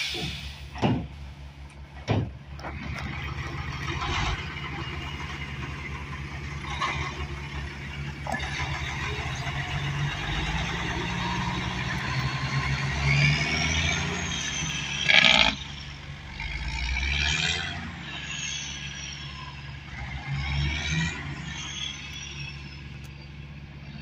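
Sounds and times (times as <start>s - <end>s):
diesel truck engine driving off: 0.0s - 24.0s
high engine whine: 0.0s - 24.0s.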